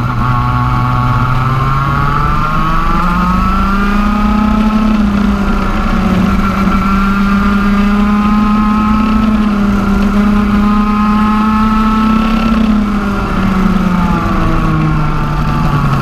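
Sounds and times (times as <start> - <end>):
kart engine at high revs: 0.0 - 16.0.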